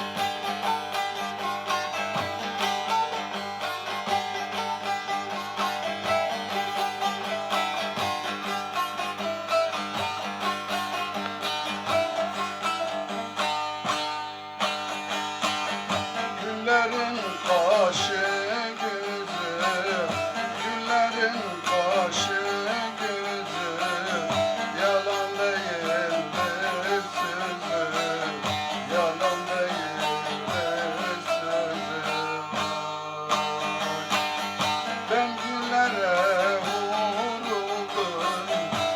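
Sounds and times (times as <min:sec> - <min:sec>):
plucked string instrument strumming: 0:00.0 - 0:38.9.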